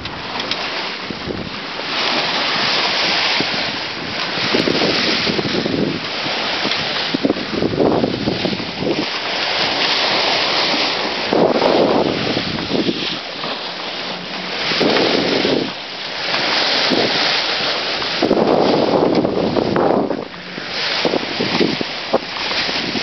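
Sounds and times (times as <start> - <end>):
water rushing along hull: 0.0 - 23.0
wind buffeting microphone: 0.0 - 23.0.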